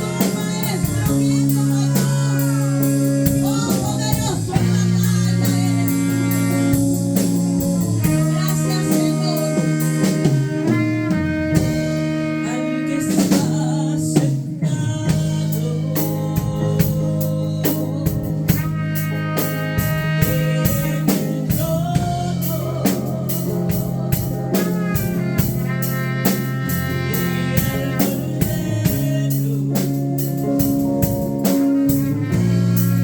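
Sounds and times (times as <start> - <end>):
drum kit cymbals: 0.0 - 33.0
keyboard or guitar chords: 0.0 - 33.0
person singing: 0.0 - 33.0.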